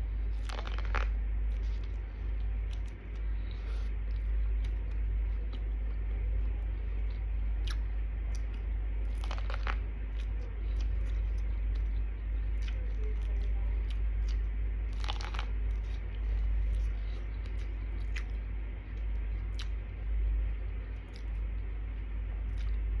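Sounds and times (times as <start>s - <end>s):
steady low hum: 0.0s - 23.0s
crunching corn on the cob: 0.3s - 19.8s.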